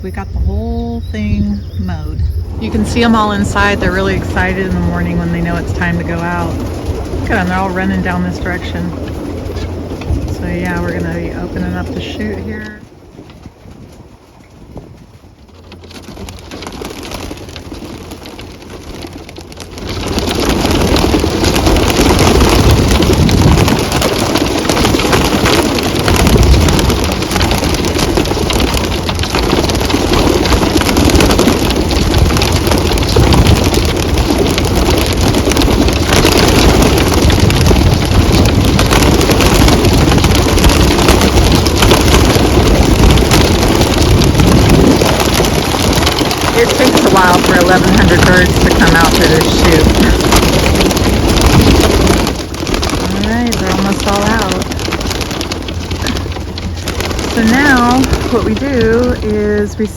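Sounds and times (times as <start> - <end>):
pigeon wings flapping: 2.4 - 59.9.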